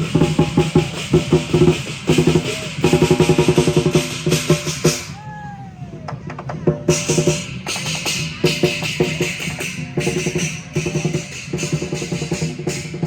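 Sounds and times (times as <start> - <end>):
cymbals clashing: 0.0 - 5.2, 6.9 - 13.0
large drum beating: 0.0 - 13.0.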